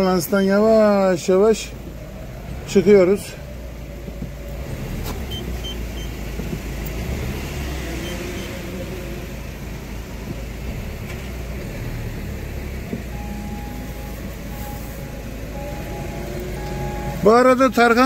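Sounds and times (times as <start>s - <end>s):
road rumble: 0.0s - 18.0s
car engine driving off: 0.7s - 18.0s.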